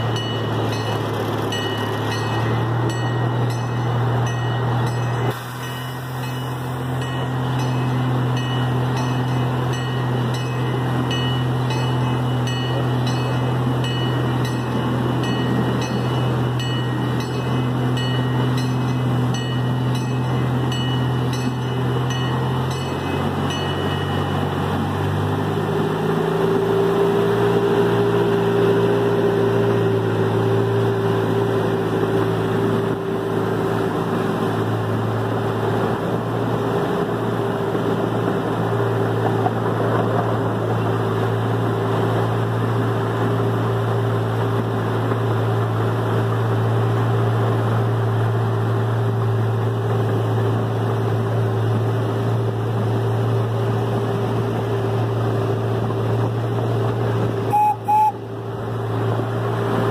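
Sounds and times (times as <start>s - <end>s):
small train engine droning: 0.0s - 59.9s.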